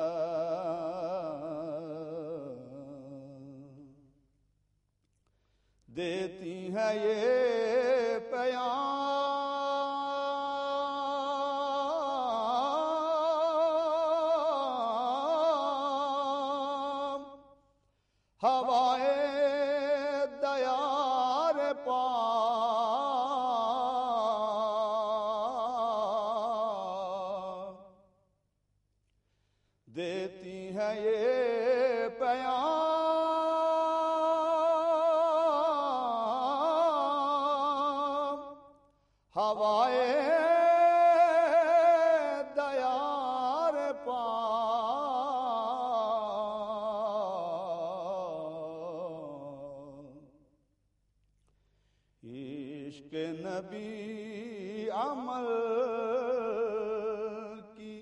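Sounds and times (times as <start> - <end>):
man singing unaccompanied: 0.0 - 4.0, 5.9 - 17.6, 18.4 - 28.0, 29.9 - 50.4, 52.2 - 58.0.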